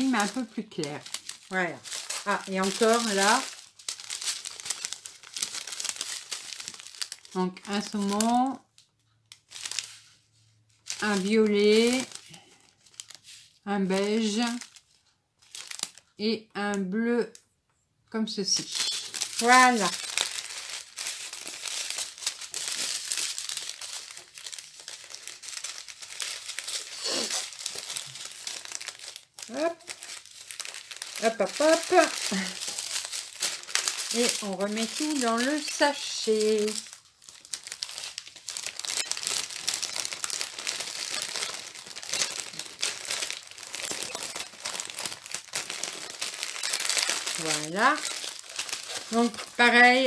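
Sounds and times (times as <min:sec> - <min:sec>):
plastic bags crinkling: 0:00.0 - 0:16.2, 0:18.5 - 0:50.0.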